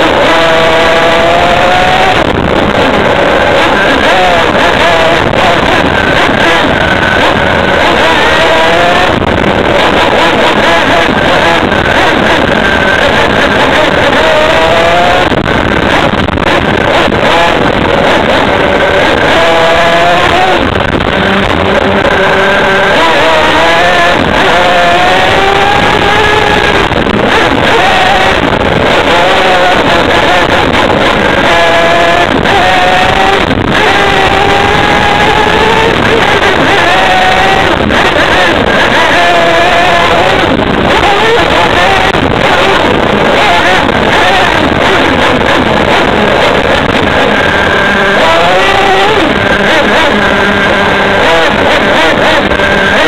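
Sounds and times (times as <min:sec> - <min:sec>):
rattle and rush of noise: 0:00.0 - 0:53.0
small engine running: 0:00.0 - 0:53.0
wind buffeting on microphone: 0:00.0 - 0:53.0.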